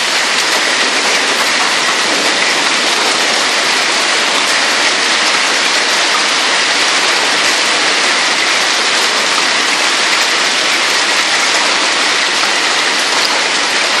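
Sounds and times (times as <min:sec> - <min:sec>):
hail and heavy rain on pavement: 0:00.0 - 0:14.0.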